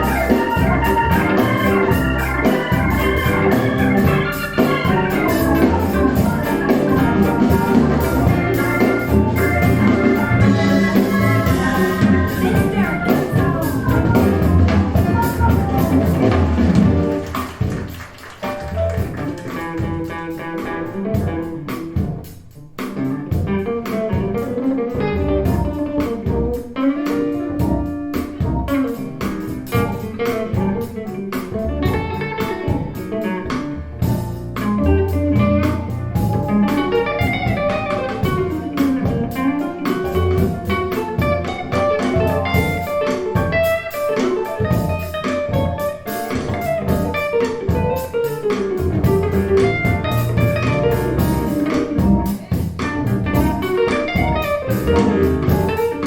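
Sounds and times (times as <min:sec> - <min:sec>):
guitar-led instrumental music: 0:00.0 - 0:56.0.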